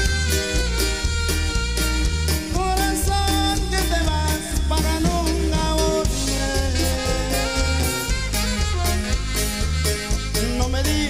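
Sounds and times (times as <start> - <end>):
upbeat band music with horns: 0.0 - 11.0.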